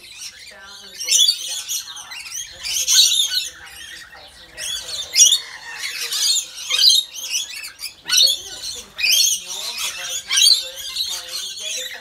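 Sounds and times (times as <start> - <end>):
parrots screeching and chattering: 0.0 - 12.0.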